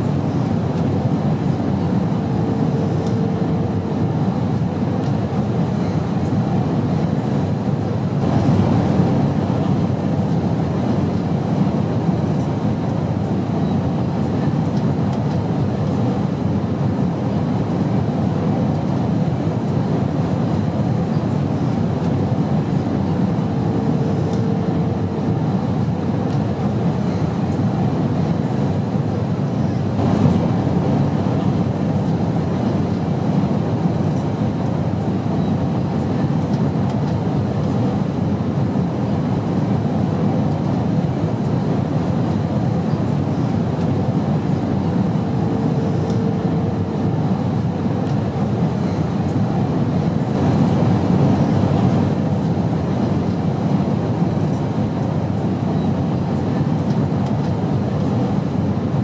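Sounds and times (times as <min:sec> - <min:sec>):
airplane in flight rumble: 0:00.0 - 0:59.0.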